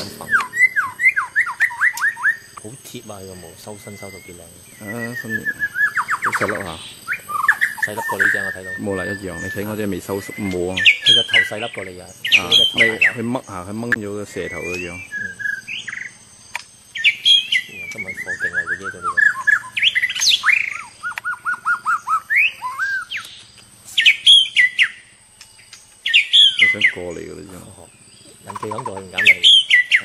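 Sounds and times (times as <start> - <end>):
bird singing whistled phrases: 0.0 - 16.1, 16.9 - 25.1, 26.0 - 30.0
sharp repeated bird chirps: 0.0 - 30.0.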